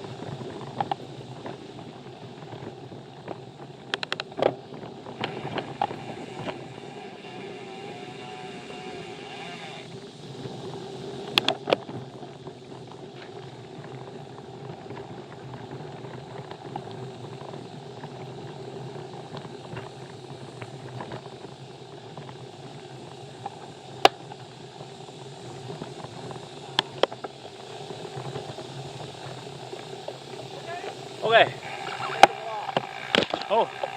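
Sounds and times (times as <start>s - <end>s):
bike rattling over bumps: 0.0s - 33.9s
bike tyres rushing on trail: 0.0s - 33.9s.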